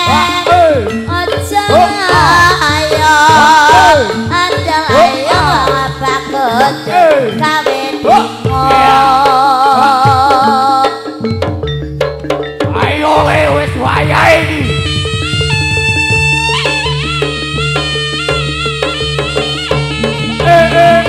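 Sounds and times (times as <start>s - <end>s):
drums in repeating pattern: 0.0s - 21.0s.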